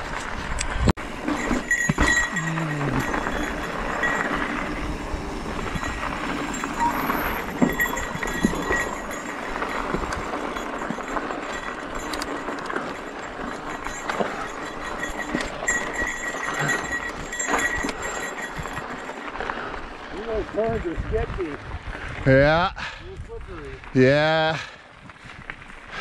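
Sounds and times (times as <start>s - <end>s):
bike rattles and knocks: 0.0s - 21.4s
tyre and wind rush: 0.0s - 26.0s.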